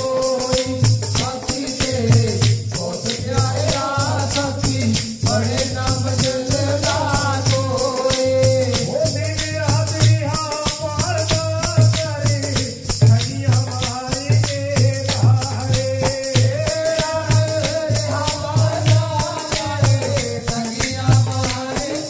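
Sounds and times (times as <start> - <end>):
men singing a hymn: 0.0 - 22.0
shaken rattle percussion: 0.0 - 22.0.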